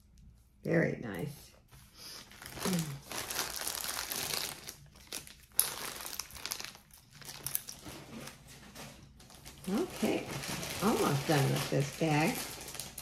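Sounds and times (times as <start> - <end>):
plastic bag crinkling: 2.1 - 13.0.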